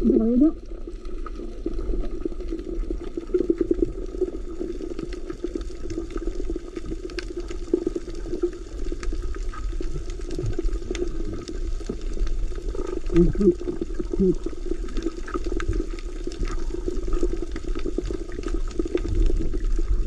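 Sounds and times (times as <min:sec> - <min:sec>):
faint underwater crackles and clicks: 0:00.0 - 0:20.0
muffled underwater rush: 0:00.0 - 0:20.0.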